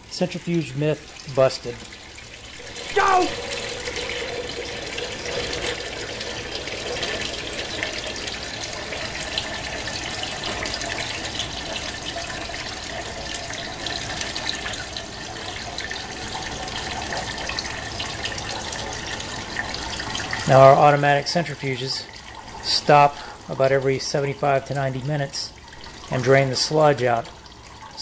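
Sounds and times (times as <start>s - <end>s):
liquid trickling and splashing: 0.0s - 28.0s.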